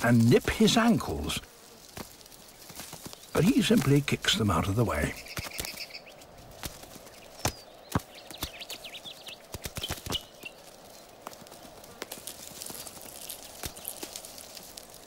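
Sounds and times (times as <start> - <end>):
beetle footsteps on gravel: 0.0 - 15.0.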